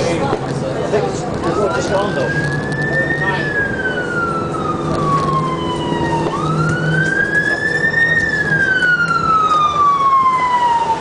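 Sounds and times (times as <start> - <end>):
siren wailing: 1.4 - 11.0.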